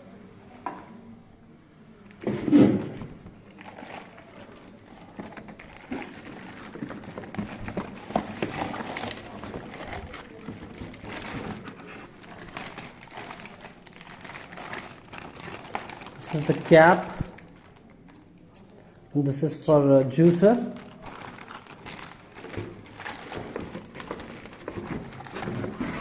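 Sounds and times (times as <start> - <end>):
plastic packaging crinkling: 2.8 - 18.8, 20.0 - 26.0.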